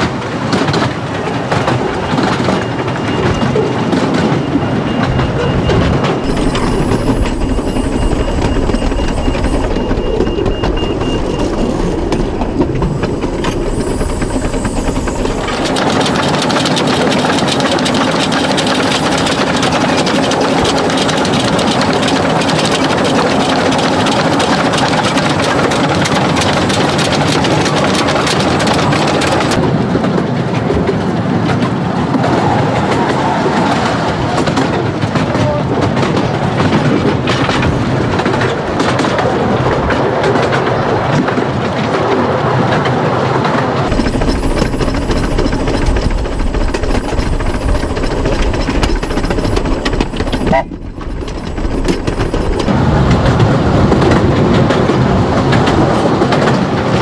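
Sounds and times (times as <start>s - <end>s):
train rumble: 0.0s - 57.0s
wheels clacking over rails: 0.0s - 57.0s.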